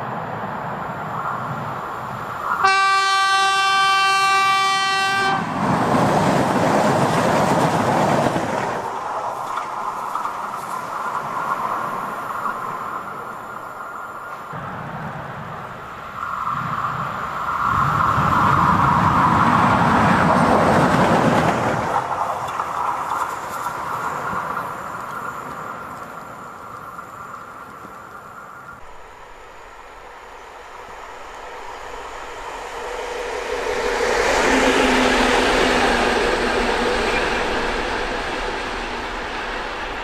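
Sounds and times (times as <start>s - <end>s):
locomotive approaching: 0.0s - 40.0s
train passing: 0.0s - 40.0s.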